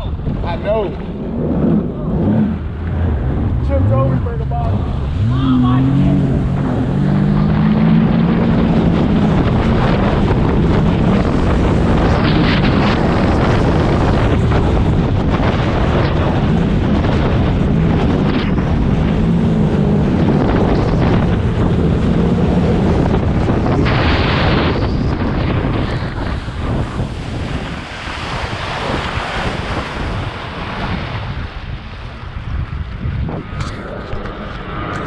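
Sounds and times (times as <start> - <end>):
rushing water: 0.0 - 32.3
jet ski engine drone: 0.0 - 35.0
wind noise on microphone: 0.0 - 35.0.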